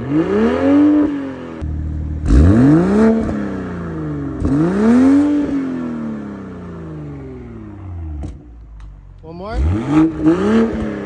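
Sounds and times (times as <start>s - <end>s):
car engine revving: 0.0s - 8.8s, 9.4s - 11.0s.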